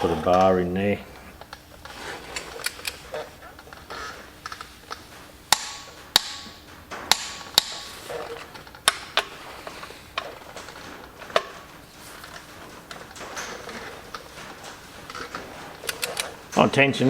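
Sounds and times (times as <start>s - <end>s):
metal tools clinking on metal: 0.0s - 17.0s.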